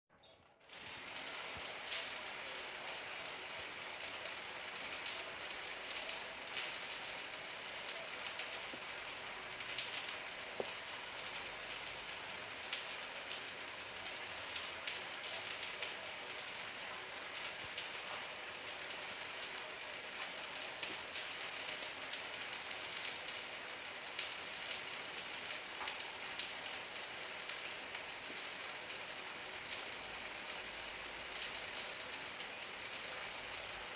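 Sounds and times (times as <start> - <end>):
light rain hissing: 0.5 - 33.9.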